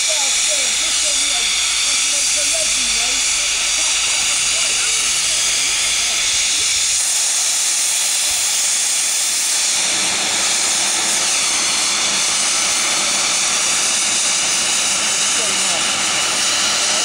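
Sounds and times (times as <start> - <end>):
steam locomotive blowing off steam: 0.0 - 17.0.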